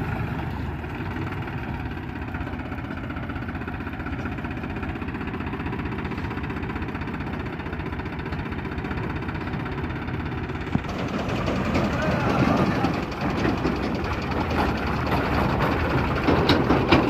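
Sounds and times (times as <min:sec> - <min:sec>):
tractor diesel engine chugging: 0:00.0 - 0:17.0.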